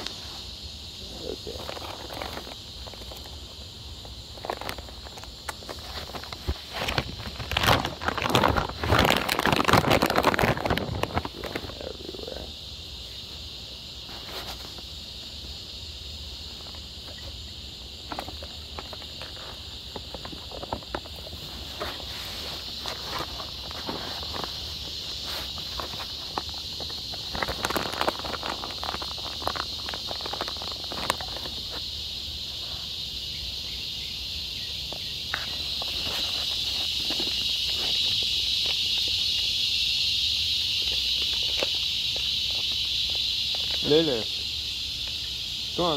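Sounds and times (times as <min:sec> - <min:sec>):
cicadas droning: 0:00.0 - 0:45.9.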